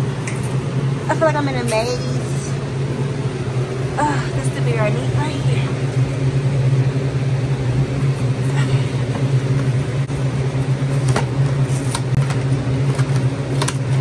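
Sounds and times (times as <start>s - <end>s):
cooler fans humming: 0.0s - 14.0s.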